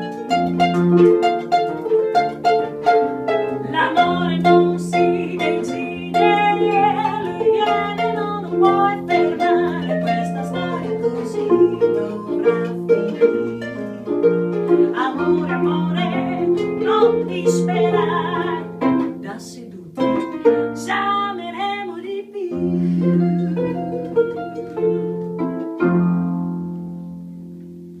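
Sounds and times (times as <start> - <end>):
instrumental blues music: 0.0 - 28.0.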